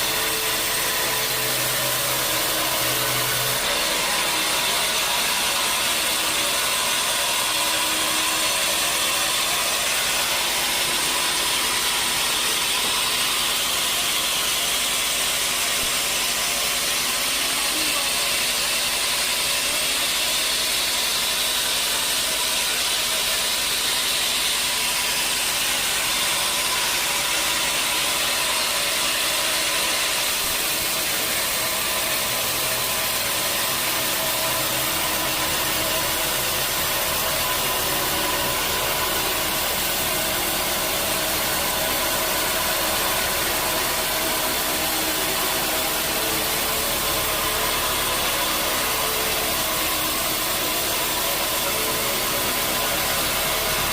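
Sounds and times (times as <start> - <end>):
sawmill machinery drone: 0.0 - 53.9.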